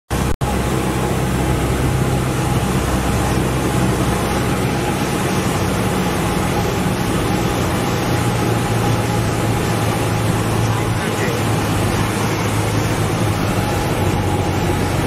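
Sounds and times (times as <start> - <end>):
airflow noise: 0.1 - 15.0
propeller aircraft engine droning: 0.1 - 15.0.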